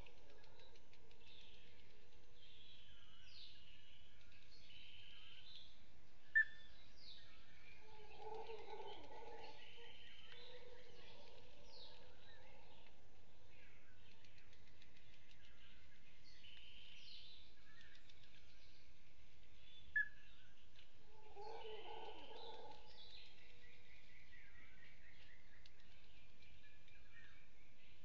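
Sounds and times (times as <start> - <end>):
forest birds calling: 0.0 - 28.0.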